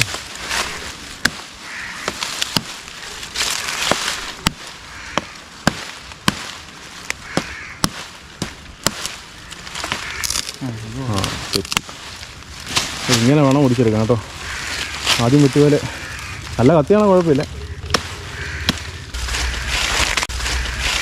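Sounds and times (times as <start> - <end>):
knife chopping branches: 0.0 - 10.6, 11.2 - 13.8, 14.7 - 21.0
leafy rustling and scraping: 0.0 - 21.0.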